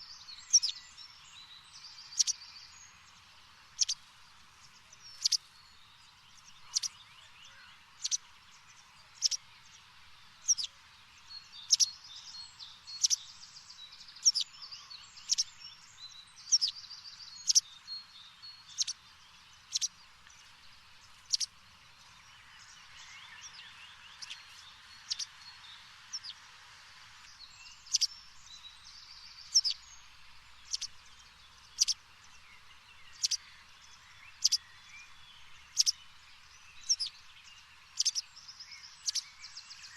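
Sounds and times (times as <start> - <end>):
faint steady hiss: 0.0 - 39.9
small birds chirping: 0.0 - 39.9.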